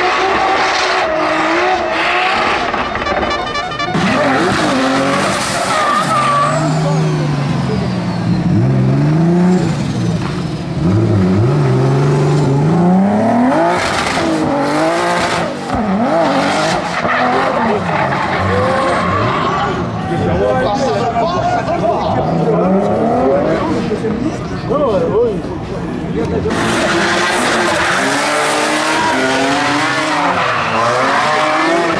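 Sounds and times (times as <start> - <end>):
tyres spinning and skidding: 0.0 - 24.7, 25.5 - 31.9
car engines revving hard: 0.0 - 31.9.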